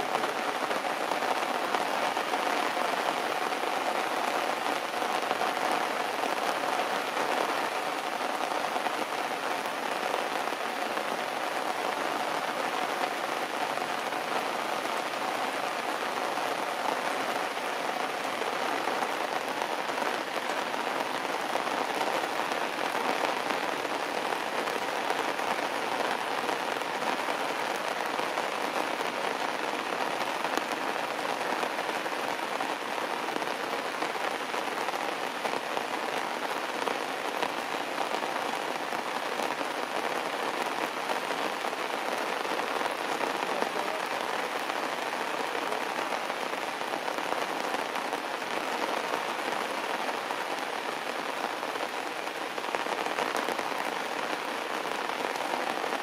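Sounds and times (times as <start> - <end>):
heavy rain on stone and plants: 0.0 - 56.0.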